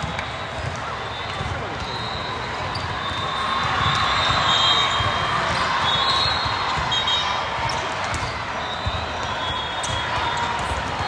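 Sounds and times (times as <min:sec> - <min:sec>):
balls bouncing on court floor: 0:00.0 - 0:11.0
crowd voices: 0:00.0 - 0:11.0.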